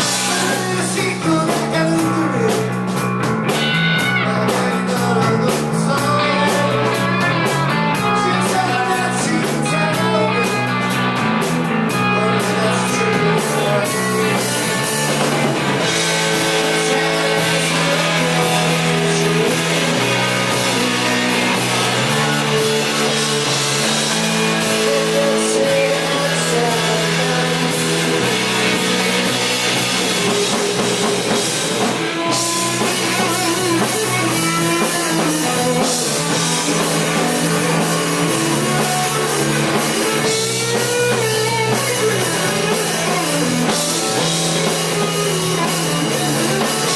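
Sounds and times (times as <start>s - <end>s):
rock band playing instrumental: 0.0s - 46.9s.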